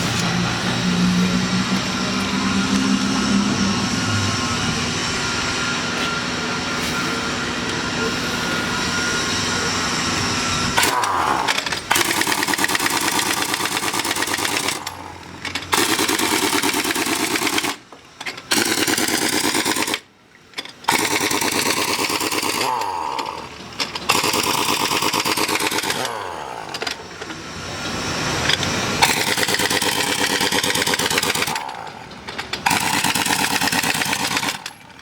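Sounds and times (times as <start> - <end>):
pneumatic impact wrench hammering: 0.0 - 35.0.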